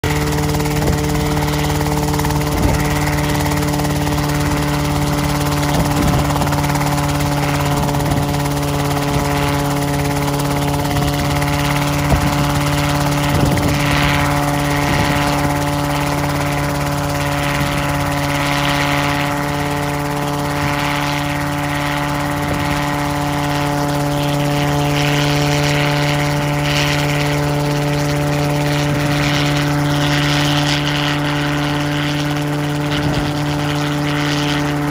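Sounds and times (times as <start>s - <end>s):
helicopter engine and rotor: 0.0s - 34.9s.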